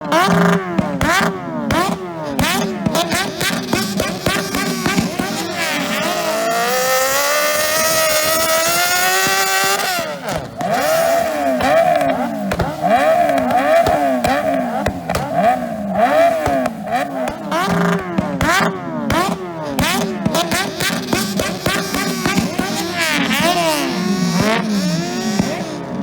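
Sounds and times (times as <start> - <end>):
racing motorcycles at full throttle: 0.0 - 26.0.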